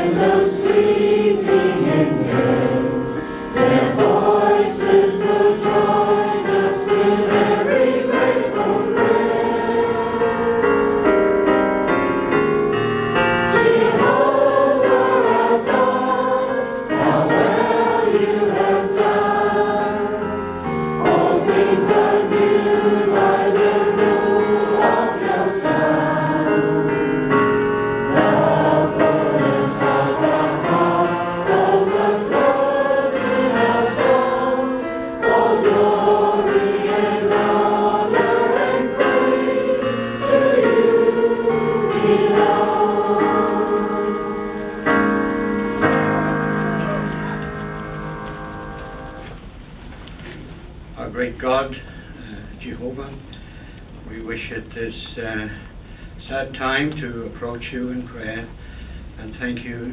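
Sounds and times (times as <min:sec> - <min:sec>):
congregation singing a hymn: 0:00.0 - 0:49.4.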